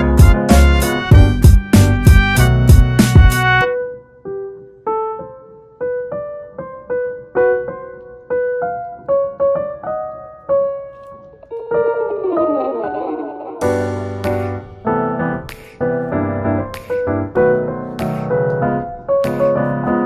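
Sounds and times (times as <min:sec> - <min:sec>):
gentle piano melody: 0:03.6 - 0:20.0.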